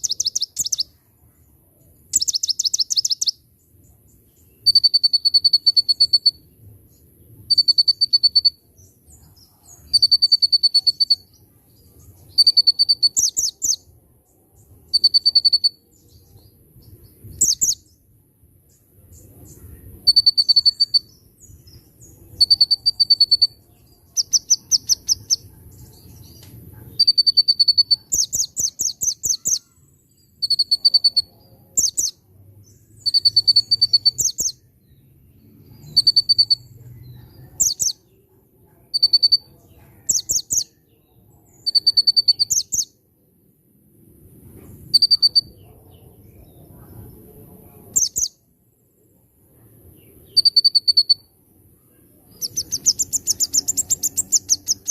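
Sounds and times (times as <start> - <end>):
sunbird singing: 0.0 - 43.0, 44.9 - 48.4, 49.5 - 54.9.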